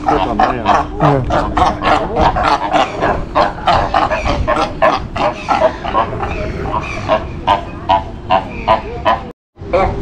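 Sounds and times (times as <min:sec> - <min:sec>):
seals barking: 0:00.0 - 0:09.3.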